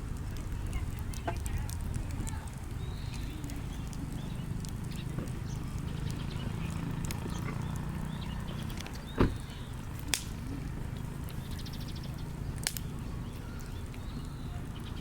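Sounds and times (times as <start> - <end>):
campfire flames rushing: 0.0 - 15.0
fire crackling: 0.0 - 15.0
sharp pops of burning wood: 0.0 - 15.0.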